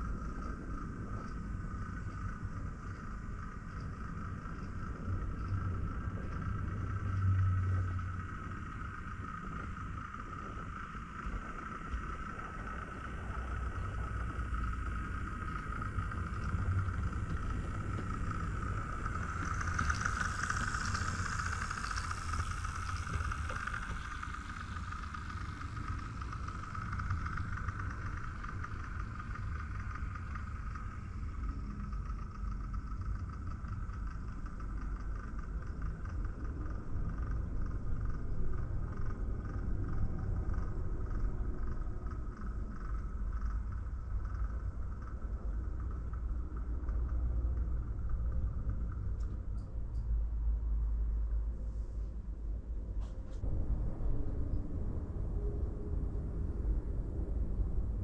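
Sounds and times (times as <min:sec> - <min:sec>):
motor whine: 0:00.0 - 0:49.5
model train wheels rumbling on track: 0:00.0 - 0:53.8.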